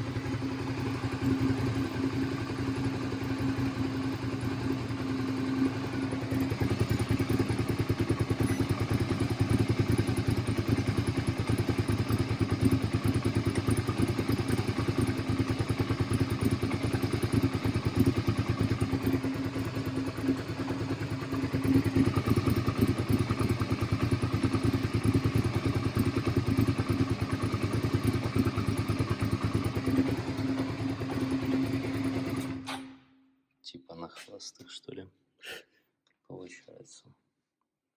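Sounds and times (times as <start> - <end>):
motorcycle engine idling: 0.0 - 33.1.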